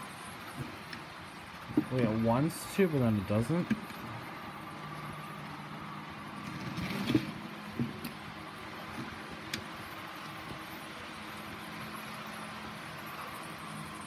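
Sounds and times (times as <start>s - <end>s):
small electric motor humming: 0.0s - 14.0s.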